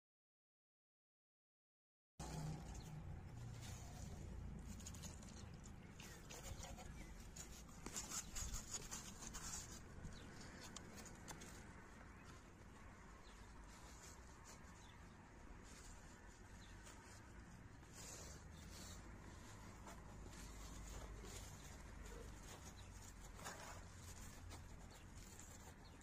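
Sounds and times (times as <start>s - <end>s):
hands rustling in garden soil: 2.2s - 26.0s.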